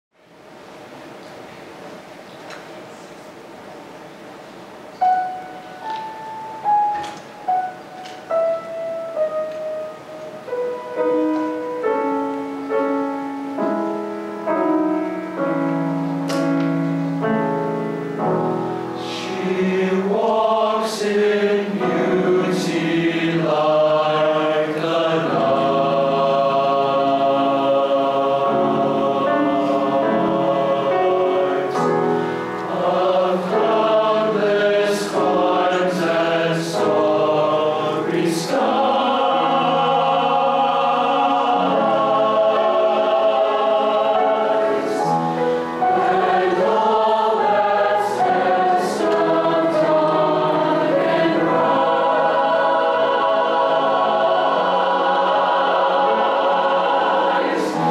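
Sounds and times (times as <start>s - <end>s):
grand piano playing: 4.6s - 57.9s
choir singing harmony: 5.0s - 57.9s.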